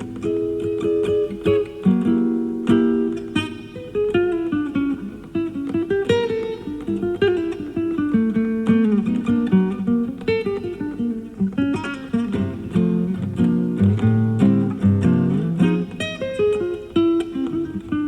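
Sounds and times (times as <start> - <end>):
classical guitar playing: 0.0 - 18.0.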